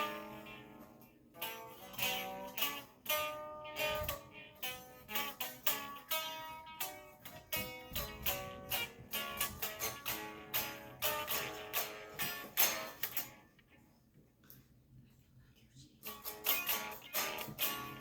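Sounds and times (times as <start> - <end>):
guitar plucked and strummed: 0.0 - 13.7, 16.0 - 18.0.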